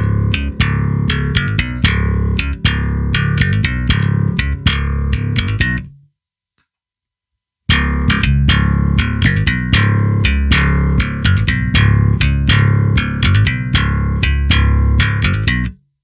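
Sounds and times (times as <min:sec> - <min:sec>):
electric bass plucked notes: 0:00.0 - 0:06.0, 0:07.7 - 0:15.8.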